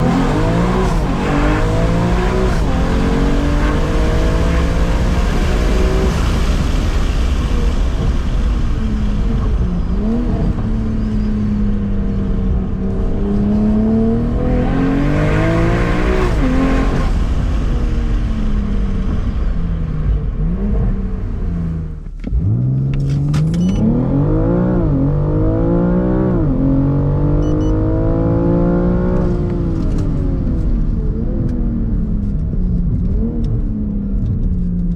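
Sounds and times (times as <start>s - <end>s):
car engine revving loudly: 0.0s - 19.2s, 20.0s - 32.0s.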